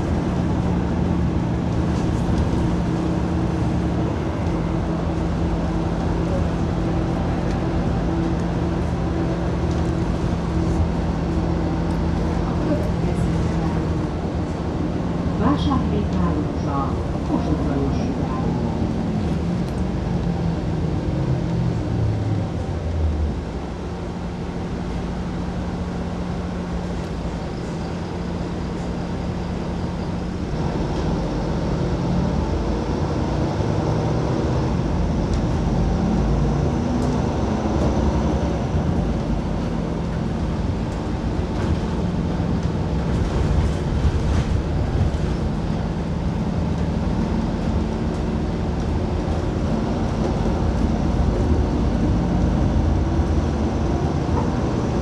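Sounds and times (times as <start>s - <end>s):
bus engine running: 0.0s - 55.0s
road noise: 0.0s - 55.0s.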